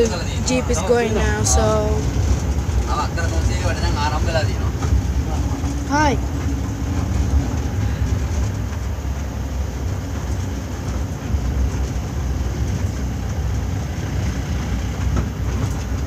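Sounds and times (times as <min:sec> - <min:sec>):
jeep engine rumble: 0:00.0 - 0:16.0
road noise: 0:00.0 - 0:16.0.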